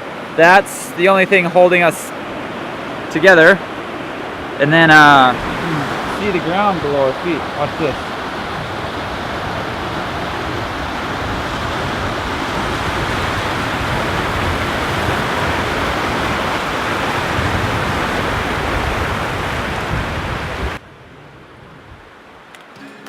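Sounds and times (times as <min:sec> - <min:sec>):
waterfall rushing roar: 0:00.0 - 0:20.8.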